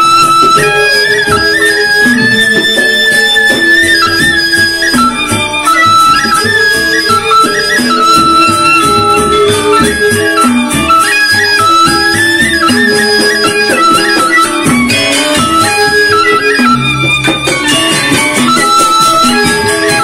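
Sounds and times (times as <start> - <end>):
high sustained melody: 0.0 - 20.0
two-headed drum beating: 0.0 - 20.0.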